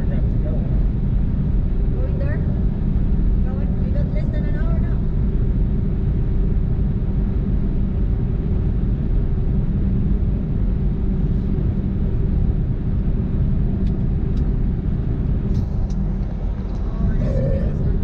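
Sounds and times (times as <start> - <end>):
road rumble: 0.0 - 18.0
truck engine drone: 0.0 - 18.0.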